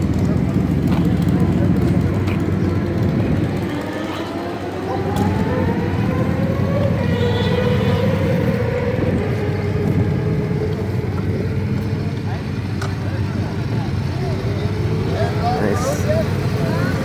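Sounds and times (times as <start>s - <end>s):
motorcycle engine revving: 0.0s - 17.0s
motorcycle engines idling: 0.0s - 17.0s.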